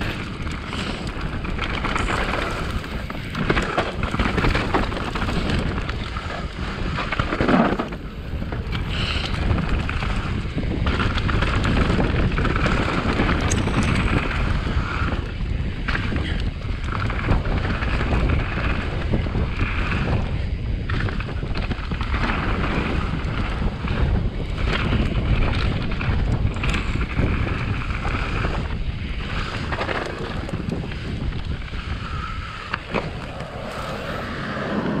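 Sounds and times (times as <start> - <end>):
bike clicks and rattles: 0.0 - 35.0
tyres rumbling on dirt: 0.0 - 35.0
wind buffeting microphone: 0.0 - 35.0.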